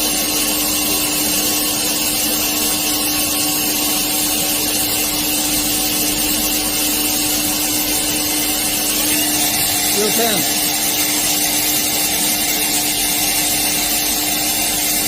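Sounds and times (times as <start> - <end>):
machine spindle humming: 0.1 - 15.0.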